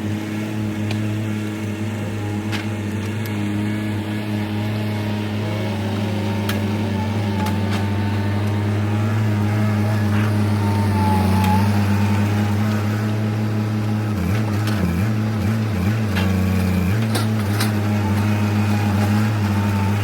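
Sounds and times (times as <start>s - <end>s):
diesel engine at high revs: 0.0s - 20.0s.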